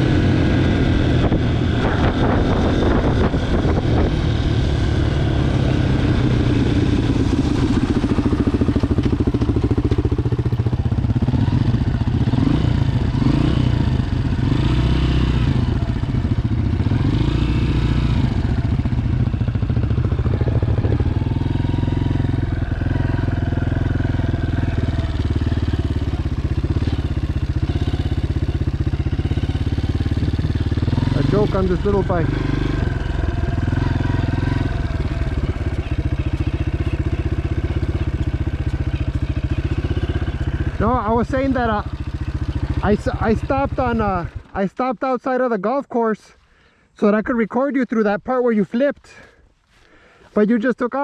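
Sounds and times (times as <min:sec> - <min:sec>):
motorcycle engine running: 0:00.0 - 0:44.8.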